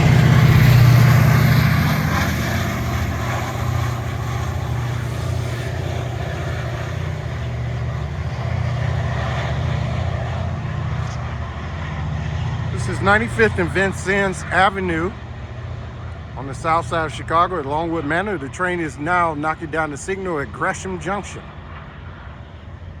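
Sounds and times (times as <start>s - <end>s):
locomotive diesel engine rumbling: 0.0s - 23.0s.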